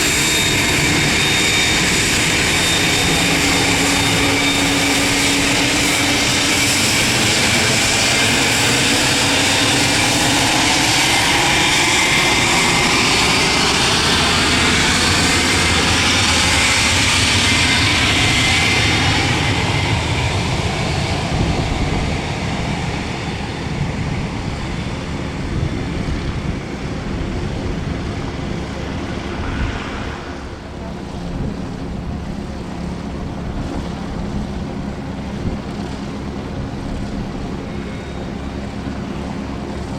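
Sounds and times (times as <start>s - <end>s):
jet passing with whine and hiss: 0.0s - 32.9s
low jet rumble: 0.0s - 39.9s.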